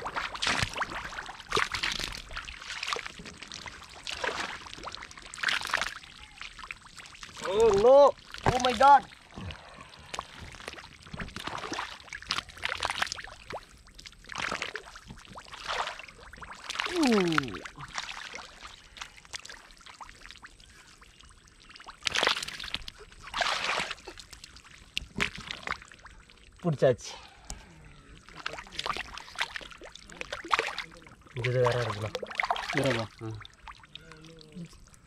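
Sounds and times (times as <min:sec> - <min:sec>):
sloshing in muddy water: 0:00.0 - 0:35.0.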